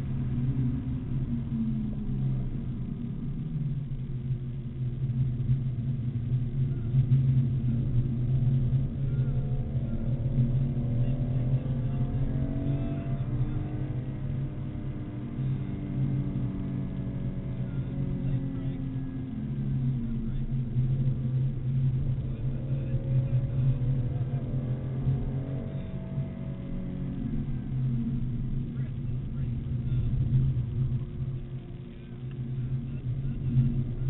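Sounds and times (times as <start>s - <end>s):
car engine revving: 0.0s - 34.0s
road and wind noise: 0.0s - 34.0s.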